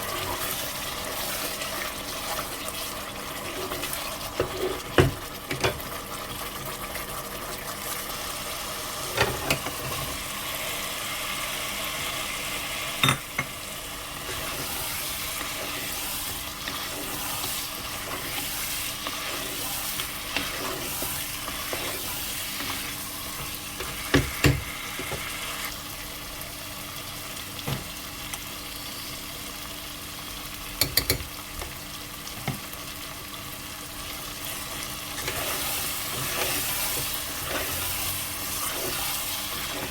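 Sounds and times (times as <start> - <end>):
food sizzling in a pot: 0.0 - 39.9.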